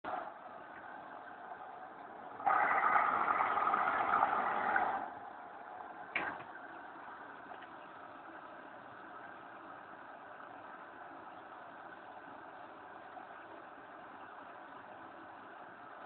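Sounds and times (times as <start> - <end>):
loud noisy washing machine sound: 0.0 - 16.0
washing machine humming: 0.0 - 16.0.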